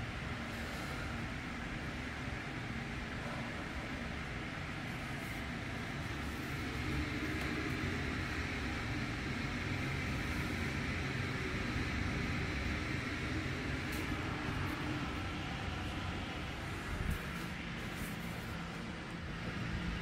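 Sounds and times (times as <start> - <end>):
room ventilation hum: 0.0 - 20.0.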